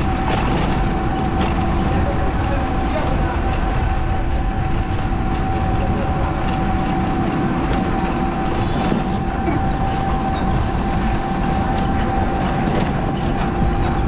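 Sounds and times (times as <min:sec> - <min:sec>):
high whine: 0:00.0 - 0:14.0
vehicle road noise rumble: 0:00.0 - 0:14.0.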